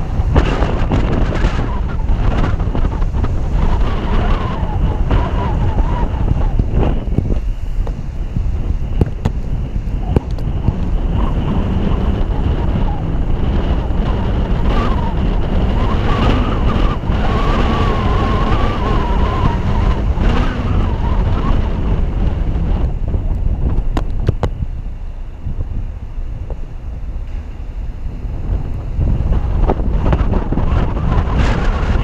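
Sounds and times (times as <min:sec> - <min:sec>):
car in motion humming: 0:00.0 - 0:32.0
wind buffeting microphone: 0:00.0 - 0:32.0.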